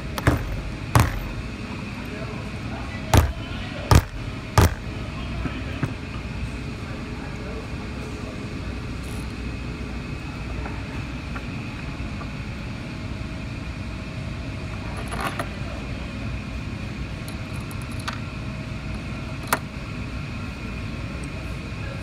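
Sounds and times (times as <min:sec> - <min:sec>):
background machinery rumble: 0:00.0 - 0:22.0.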